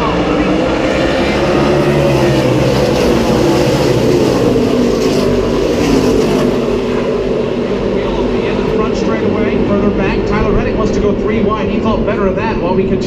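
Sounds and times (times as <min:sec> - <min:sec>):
race truck engines at full throttle: 0:00.0 - 0:13.0.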